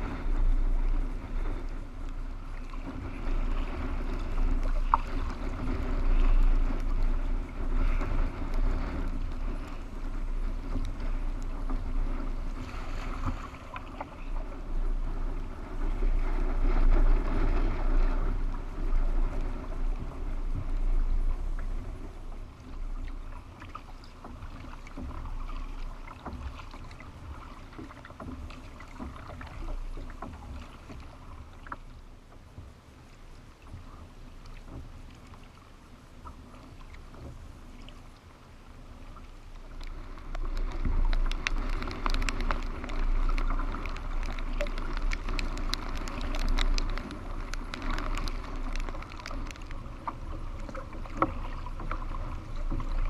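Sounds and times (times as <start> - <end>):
paddle strokes splashing: 0.0 - 53.0
water moving along hull: 0.0 - 53.0
wind on microphone: 0.0 - 53.0.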